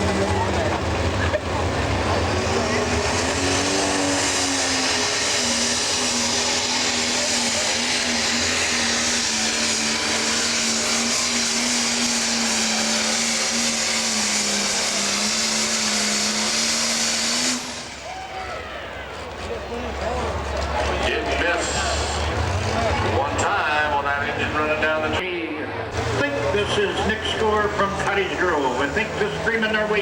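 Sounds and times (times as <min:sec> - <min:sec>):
diesel tractor engine at full power: 0:00.0 - 0:30.0.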